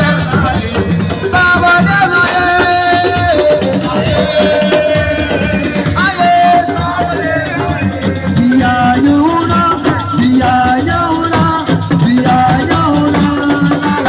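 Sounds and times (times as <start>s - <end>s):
drumming: 0.0s - 14.0s.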